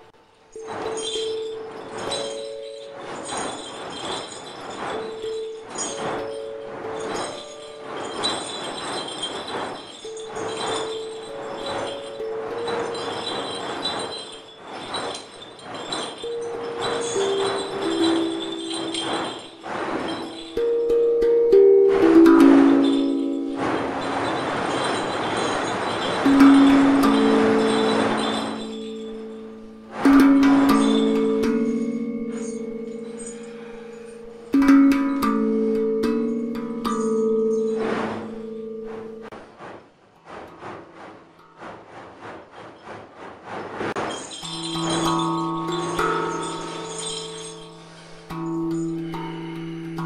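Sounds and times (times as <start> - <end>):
ringing metallic drum music: 0.0 - 39.5, 43.9 - 50.0.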